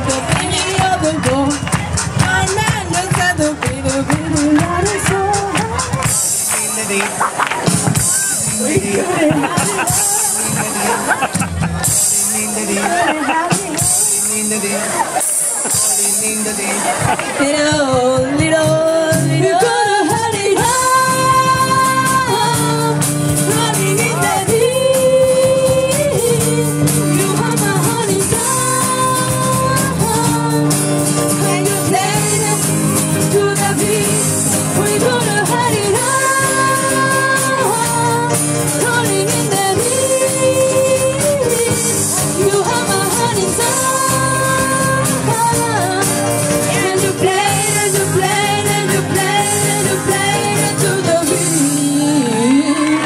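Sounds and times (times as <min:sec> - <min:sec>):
woman singing: 0:00.0 - 0:07.3, 0:08.4 - 0:11.1, 0:12.1 - 0:53.0
acoustic guitar: 0:00.0 - 0:53.0
bass guitar: 0:00.0 - 0:53.0.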